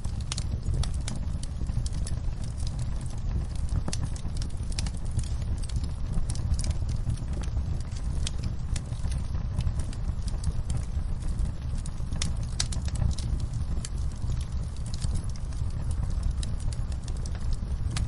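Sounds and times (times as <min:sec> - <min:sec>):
flames rumbling: 0:00.0 - 0:18.0
wood crackling and popping: 0:00.0 - 0:18.0.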